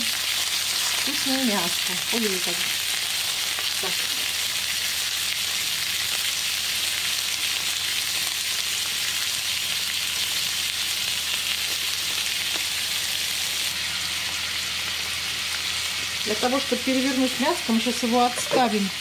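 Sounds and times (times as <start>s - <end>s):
steak sizzling in a skillet: 0.0s - 19.0s.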